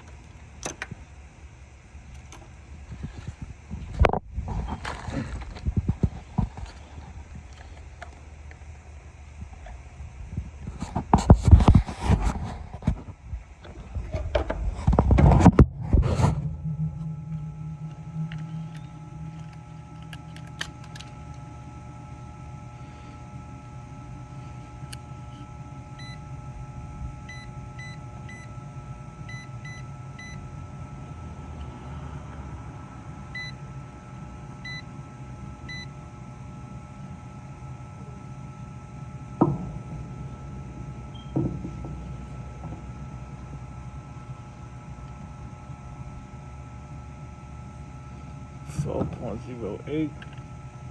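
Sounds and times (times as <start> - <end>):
steady low hum with high whine: 0.0 - 50.9.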